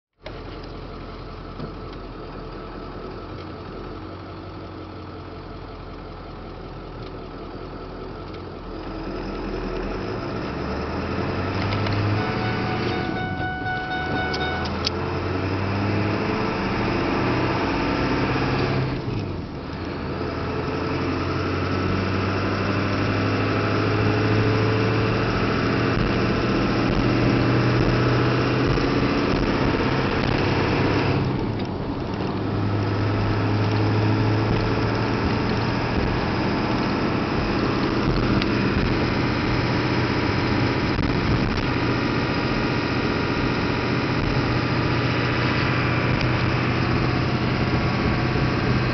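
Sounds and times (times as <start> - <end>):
diesel truck engine droning: 0.2 - 48.9.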